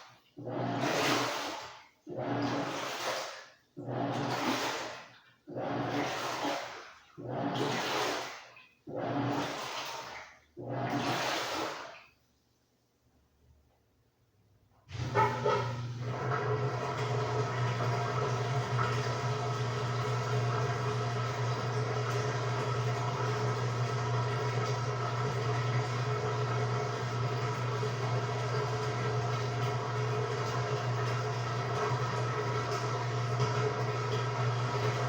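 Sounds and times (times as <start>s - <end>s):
washing machine motor hum: 0.0s - 11.9s, 14.5s - 35.0s.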